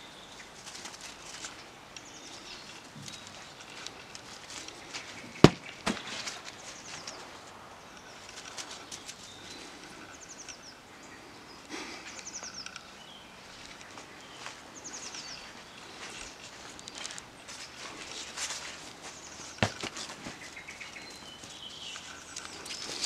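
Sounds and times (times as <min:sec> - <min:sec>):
small birds singing: 0:00.0 - 0:23.0.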